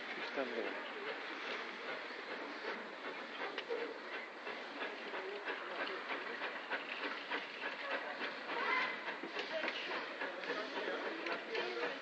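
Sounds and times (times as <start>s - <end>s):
steam hiss: 0.0s - 12.0s
steam locomotive chuffing: 0.0s - 12.0s.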